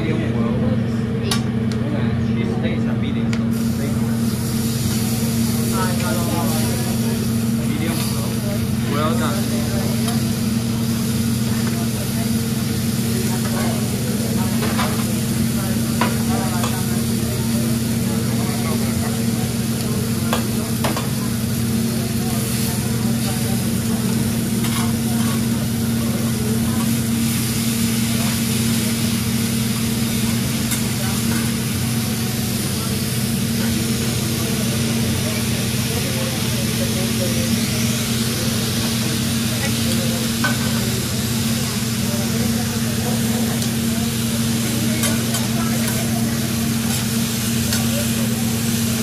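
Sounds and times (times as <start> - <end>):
ventilation hood fan hum: 0.0 - 49.0
food sizzling on a griddle: 3.5 - 49.0.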